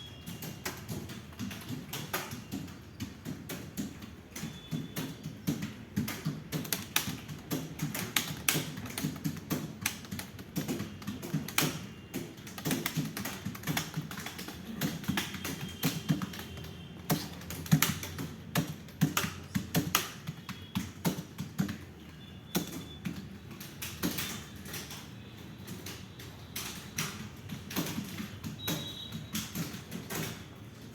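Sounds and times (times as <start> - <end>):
fast typing on keyboard: 0.0 - 30.9.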